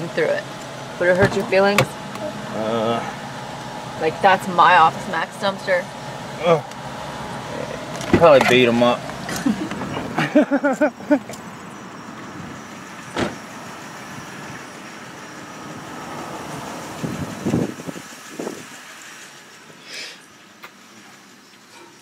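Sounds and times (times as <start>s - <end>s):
motor vehicle hum: 0.0s - 22.0s.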